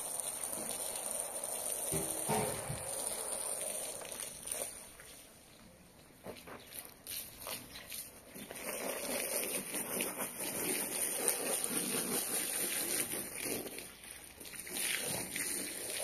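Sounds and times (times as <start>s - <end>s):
hose water splashing on rug: 0.0s - 16.0s.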